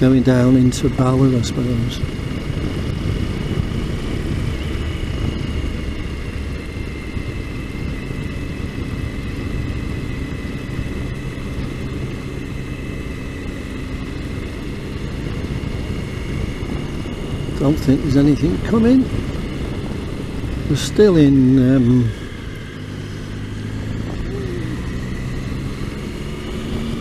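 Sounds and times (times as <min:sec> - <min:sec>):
motorcycle engine running evenly: 0:00.0 - 0:27.0.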